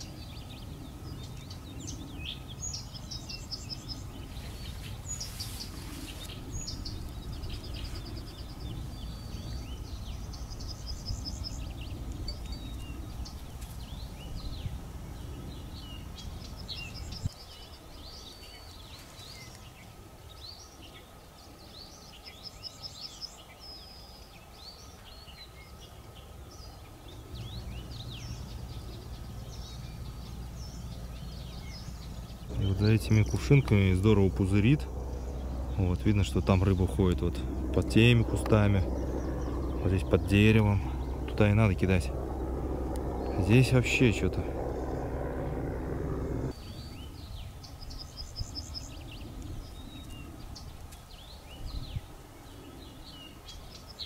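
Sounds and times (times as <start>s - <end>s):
low steady rumble: 0.0s - 17.4s, 25.7s - 53.0s
small birds chirping and singing: 0.0s - 54.0s.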